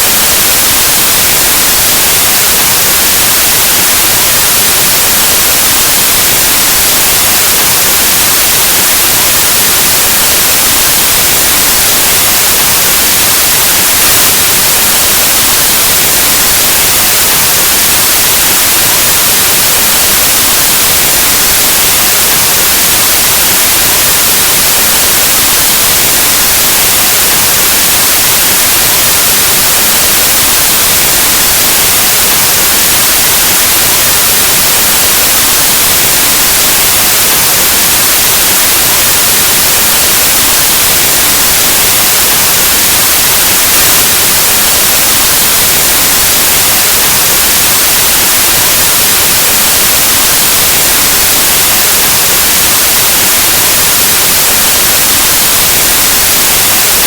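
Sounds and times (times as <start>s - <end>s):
white noise static hiss: 0.0s - 57.0s.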